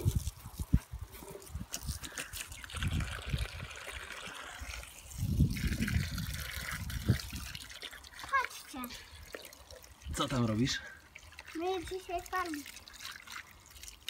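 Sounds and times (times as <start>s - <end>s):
water trickling from a hose: 0.0s - 14.0s.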